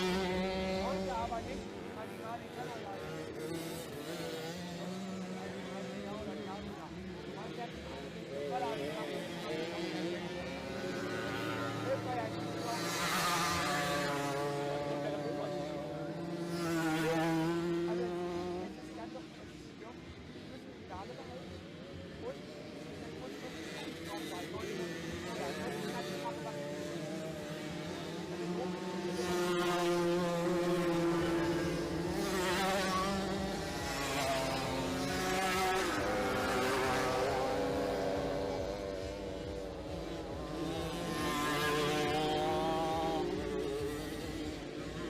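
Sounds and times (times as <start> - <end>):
moped engines buzzing: 0.0 - 45.0.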